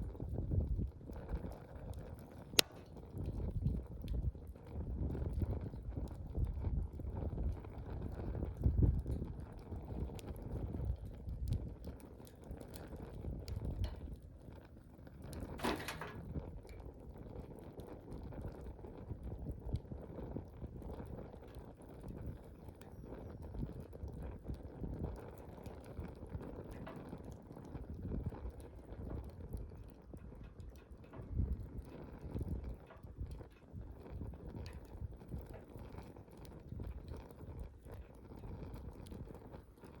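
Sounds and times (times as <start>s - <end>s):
bonfire flames rumbling: 0.0s - 40.0s
fire crackling and popping: 0.0s - 40.0s.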